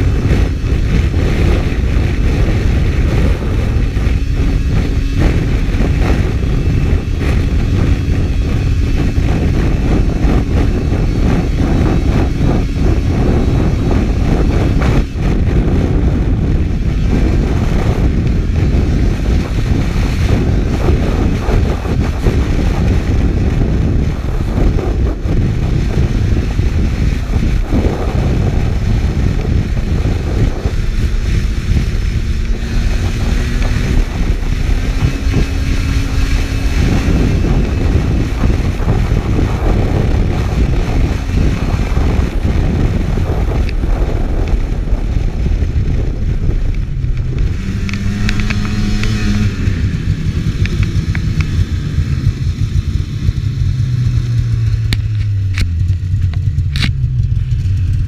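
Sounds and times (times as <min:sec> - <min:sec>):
snowmobile engine: 0:00.0 - 0:58.0
wind buffeting microphone: 0:00.0 - 0:58.0.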